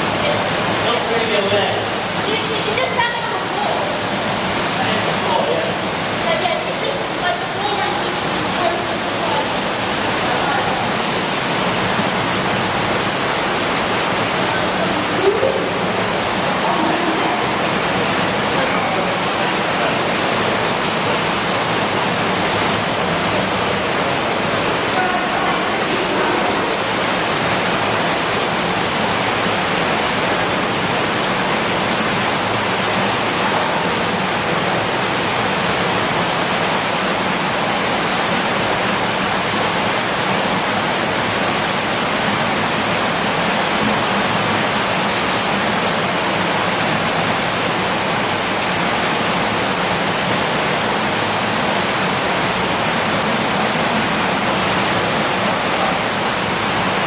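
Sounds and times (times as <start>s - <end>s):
water rushing through cave: 0.0s - 57.0s.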